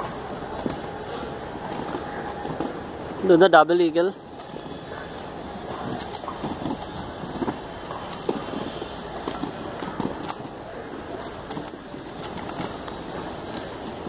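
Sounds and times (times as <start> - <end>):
roller skate wheels rolling: 0.0 - 14.0.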